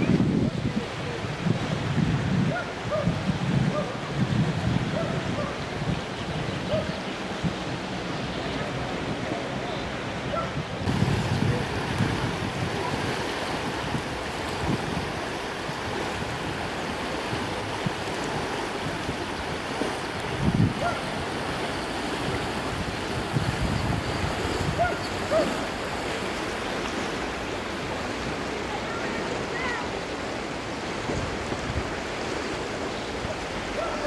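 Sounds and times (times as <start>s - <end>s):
wind buffeting microphone: 0.0s - 29.8s, 30.6s - 34.0s
river rushing: 0.0s - 34.0s.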